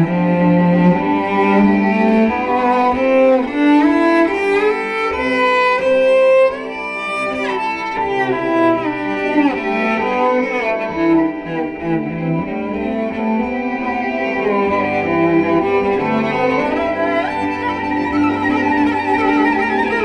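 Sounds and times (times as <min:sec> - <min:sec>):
violin and cello music: 0:00.0 - 0:20.0.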